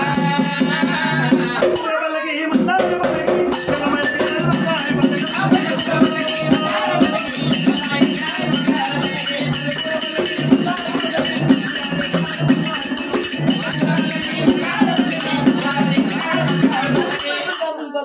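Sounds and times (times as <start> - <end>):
metal barrel drum beating: 0.0 - 17.6
metallic jingling percussion: 0.0 - 17.9.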